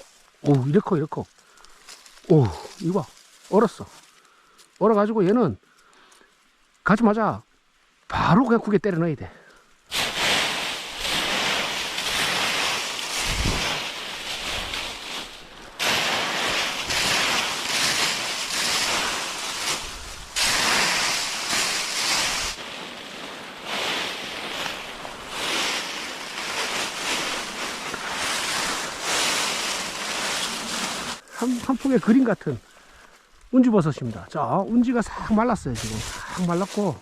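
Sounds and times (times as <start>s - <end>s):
footsteps through dry leaves: 0.0s - 5.6s, 9.9s - 37.0s.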